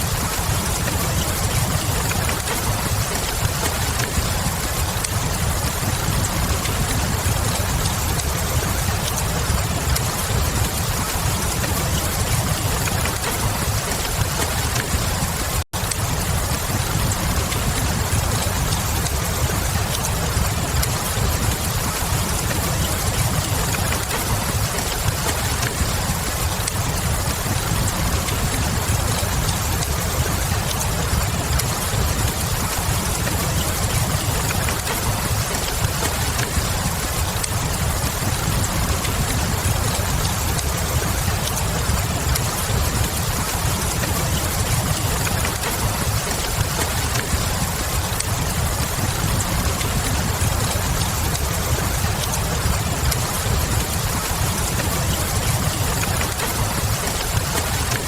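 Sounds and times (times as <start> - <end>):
fireplace crackling: 0.0 - 58.0
steady rain hiss: 0.0 - 58.0.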